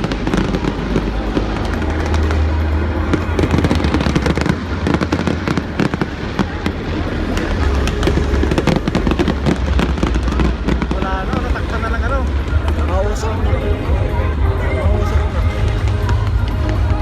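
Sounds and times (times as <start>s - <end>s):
fireworks crackling and banging: 0.0s - 17.0s
steady low rumble: 0.0s - 17.0s.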